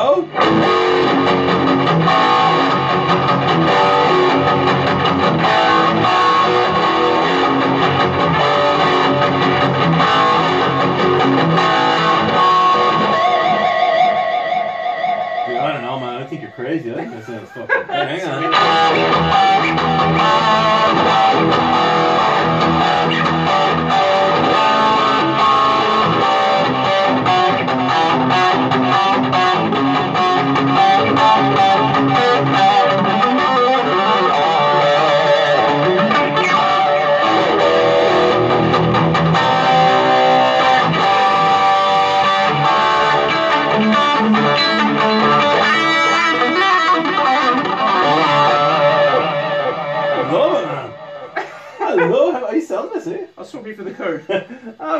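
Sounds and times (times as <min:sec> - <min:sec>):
electric guitar through amp: 0:00.0 - 0:51.4.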